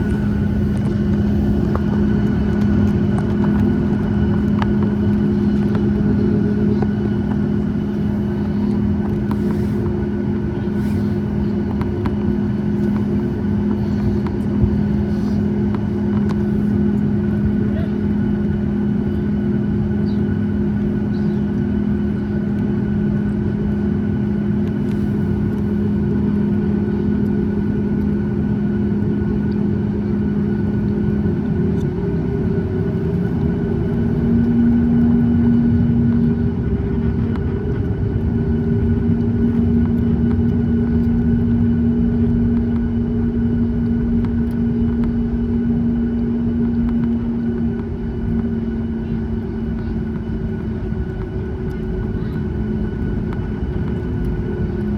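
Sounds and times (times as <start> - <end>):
airplane cabin engine rumble: 0.0 - 54.9
steady hums: 0.0 - 54.9.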